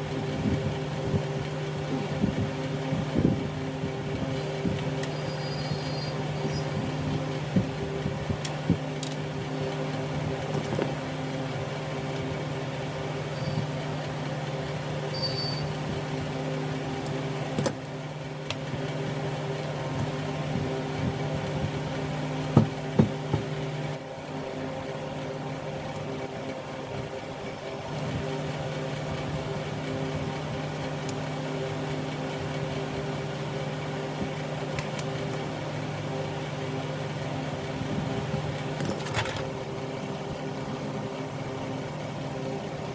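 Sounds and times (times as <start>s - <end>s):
mechanical hum: 0.0s - 42.9s.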